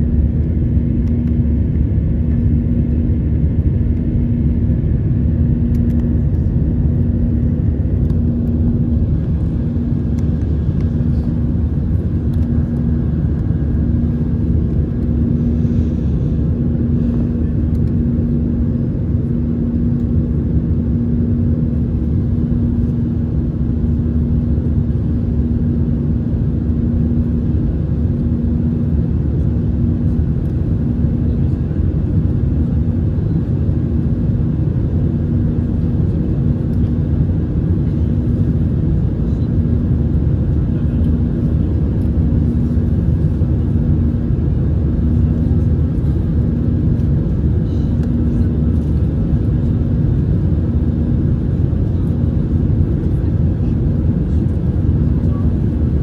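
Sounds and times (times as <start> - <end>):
aircraft cabin engine rumble: 0.0 - 56.0
steady low hum: 0.0 - 56.0.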